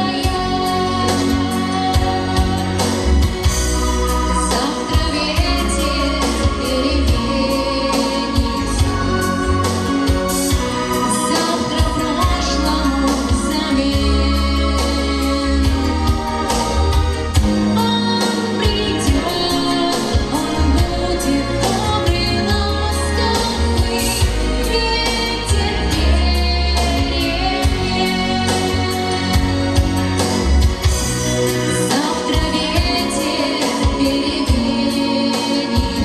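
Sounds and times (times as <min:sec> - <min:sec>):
woman singing: 0:00.0 - 0:30.6, 0:31.6 - 0:36.0
backing track with beat and bass: 0:00.0 - 0:36.0.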